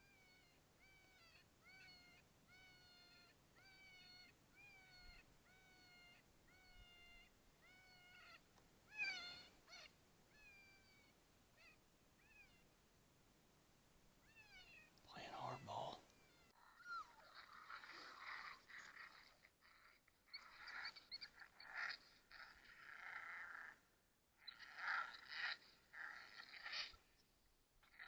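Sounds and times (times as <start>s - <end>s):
high mewing animal calls: 0.0s - 12.7s, 14.3s - 23.8s, 24.4s - 27.1s.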